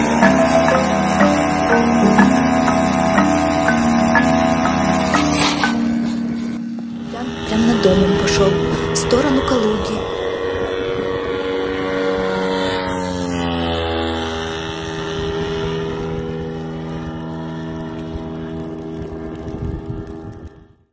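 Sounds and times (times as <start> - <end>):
propeller drone droning overhead: 0.0 - 20.8.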